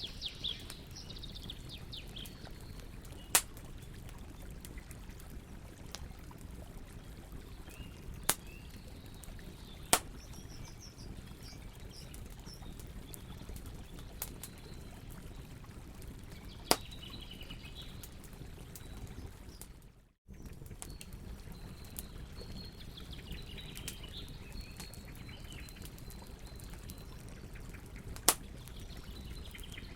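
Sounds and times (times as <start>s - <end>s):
small birds chirping: 0.0s - 5.6s, 7.0s - 29.9s
campfire rumbling: 0.0s - 29.9s.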